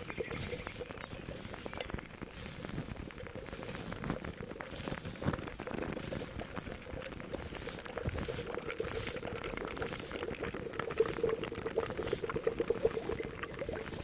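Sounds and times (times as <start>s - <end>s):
liquid boiling in a pot: 0.0s - 14.0s
soft patter of small clicks: 0.0s - 14.0s.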